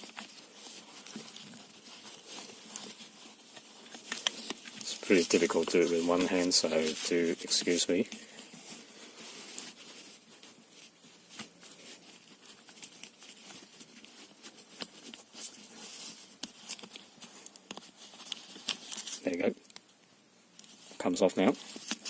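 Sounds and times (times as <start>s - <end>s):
belt webbing rubbing: 0.0s - 19.9s.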